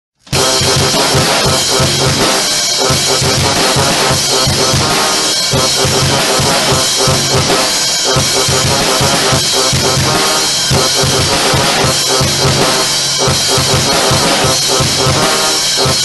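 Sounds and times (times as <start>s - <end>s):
fast drum-kit beat: 0.2s - 16.0s
loud dense band music: 0.2s - 16.0s.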